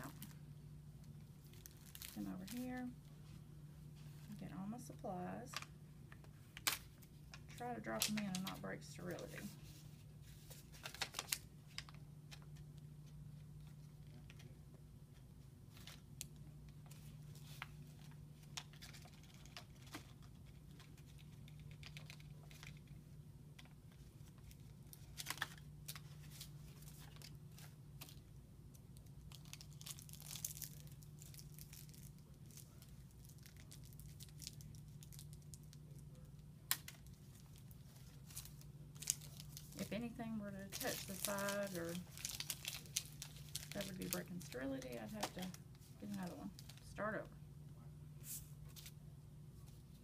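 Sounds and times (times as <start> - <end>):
low steady hum: 0.0 - 50.0
packets peeled and crinkled: 1.0 - 2.9, 6.5 - 14.5, 15.7 - 23.0, 23.6 - 46.9.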